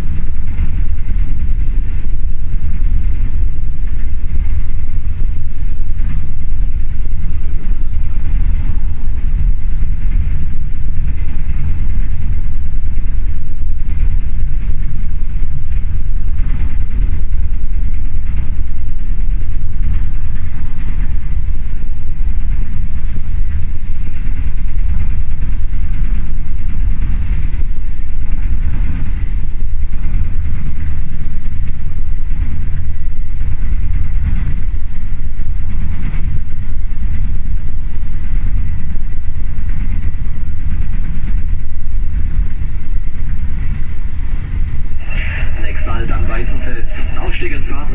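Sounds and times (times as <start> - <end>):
train carriage rumbling on track: 0.0 - 47.9.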